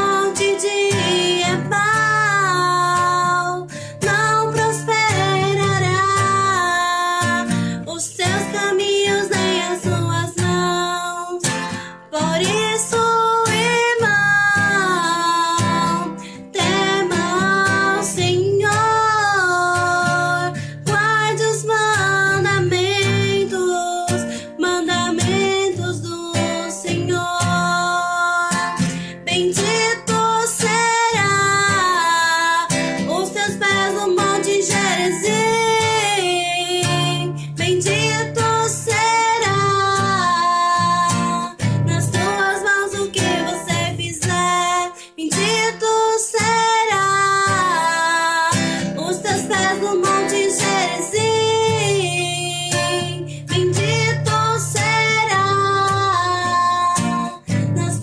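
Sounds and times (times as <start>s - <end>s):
strummed acoustic guitar: 0.0s - 58.0s
woman singing a hymn: 0.0s - 58.0s.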